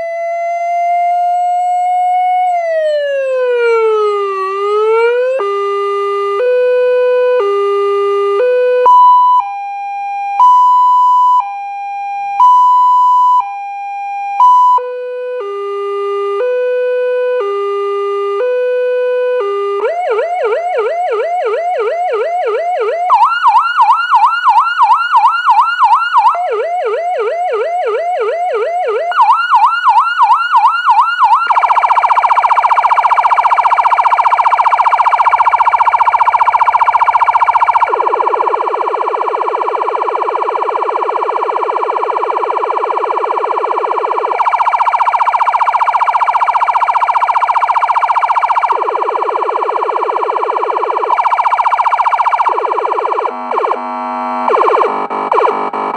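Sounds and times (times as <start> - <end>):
electronic police siren: 0.0 - 55.9.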